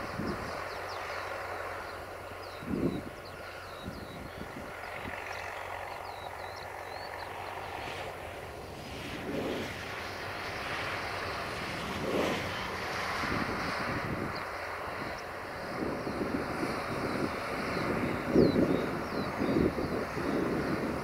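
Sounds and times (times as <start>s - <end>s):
wind-like hiss: 0.0s - 21.0s.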